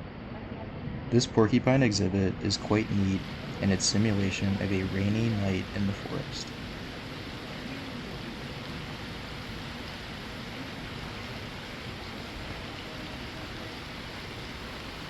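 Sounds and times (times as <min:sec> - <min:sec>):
simulated rain hissing: 0:01.1 - 0:15.0.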